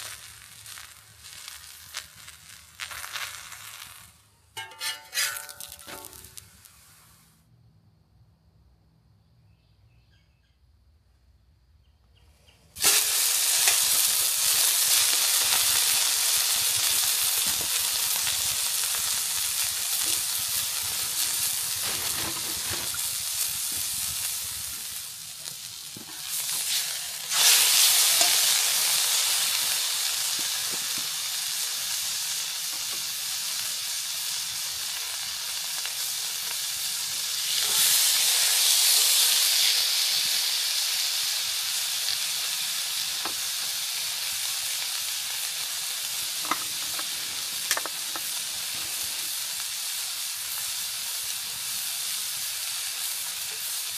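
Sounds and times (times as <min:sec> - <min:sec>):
steak sizzling in oil: 0:00.0 - 0:07.1, 0:12.8 - 0:53.9.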